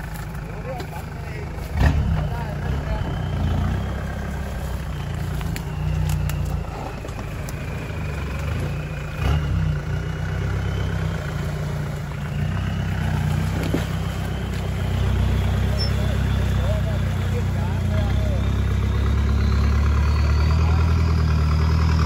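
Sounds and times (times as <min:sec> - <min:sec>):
off-road vehicle engine at low revs: 0:00.0 - 0:22.0.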